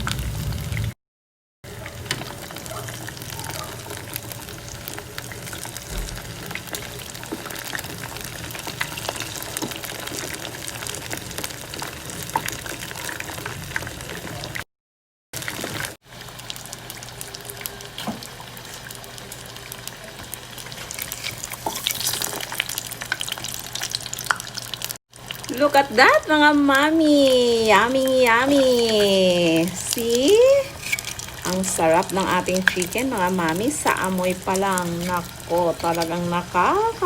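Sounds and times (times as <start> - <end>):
deep-frying in hot oil: 0.0 - 1.0, 1.6 - 14.7, 15.4 - 37.0.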